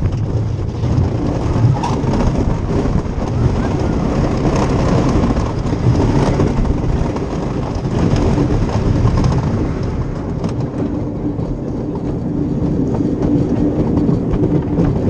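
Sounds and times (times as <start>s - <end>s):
roller coaster rumbling and rattling: 0.0s - 15.0s.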